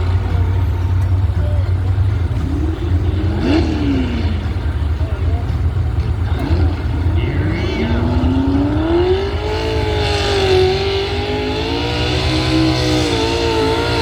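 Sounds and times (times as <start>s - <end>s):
heavy low rumble: 0.0s - 14.0s
truck engine revving: 0.0s - 14.0s.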